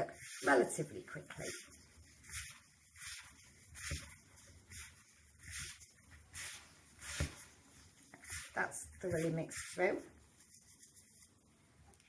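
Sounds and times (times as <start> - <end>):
hands scrunching damp powder: 0.0 - 11.4.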